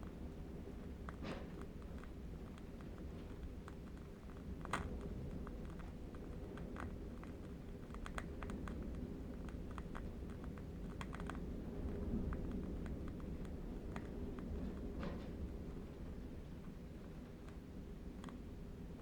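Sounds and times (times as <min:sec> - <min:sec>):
distant wind rumble: 0:00.0 - 0:19.0.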